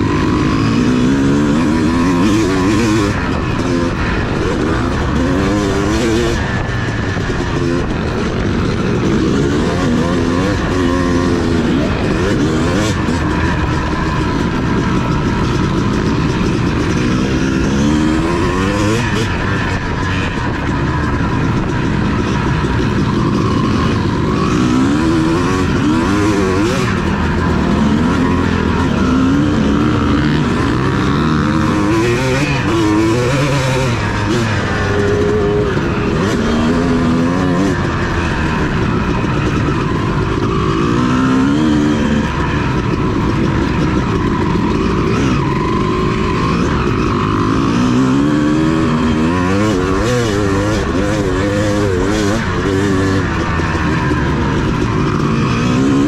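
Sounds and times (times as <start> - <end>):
motocross engine accelerating: 0.0 - 56.0.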